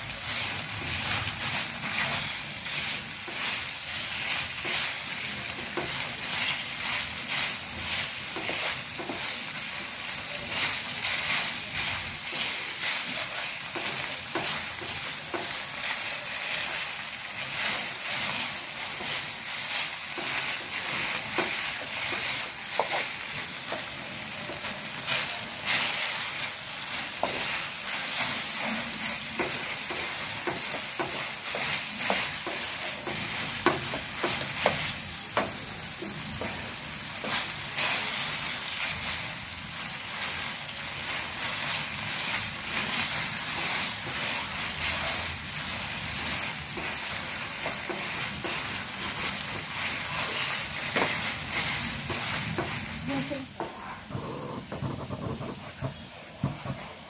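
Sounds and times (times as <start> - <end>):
food sizzling in a pan: 0.0 - 57.0
wooden spatula scraping: 0.0 - 57.0.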